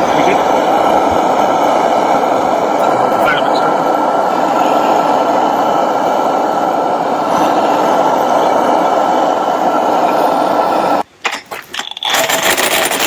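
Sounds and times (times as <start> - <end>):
heating tool blowing: 0.0 - 11.1
faint steady whine: 0.0 - 13.0.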